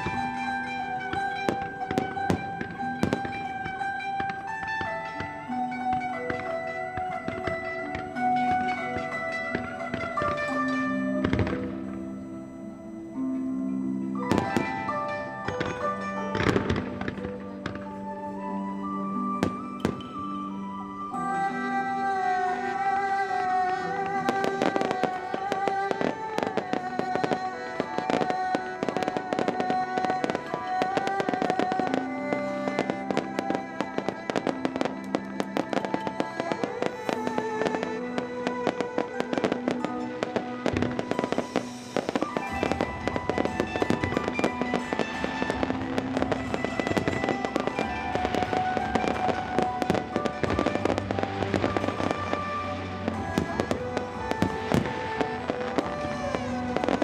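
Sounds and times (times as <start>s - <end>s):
fireworks bangs and crackling: 0.0s - 12.9s, 14.1s - 21.7s, 22.4s - 57.0s
music with sustained melodic notes: 0.0s - 57.0s.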